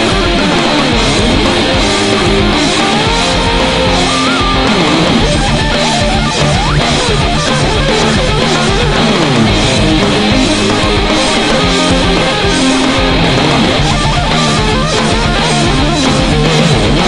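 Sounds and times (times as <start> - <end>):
electric guitar lead: 0.0 - 17.0
heavy metal backing track: 0.0 - 17.0.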